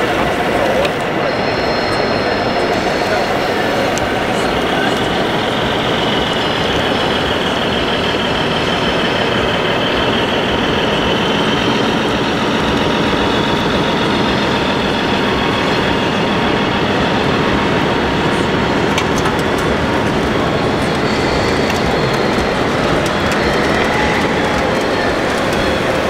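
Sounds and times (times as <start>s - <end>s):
model machines rumbling with whine: 0.0s - 26.0s.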